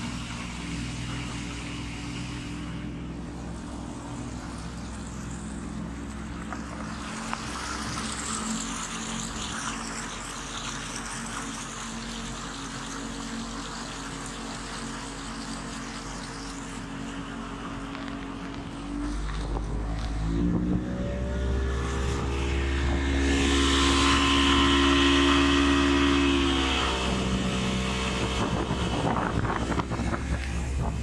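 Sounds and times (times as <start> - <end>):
motorboat engine: 0.0 - 31.0
rush of wind and water: 0.0 - 31.0.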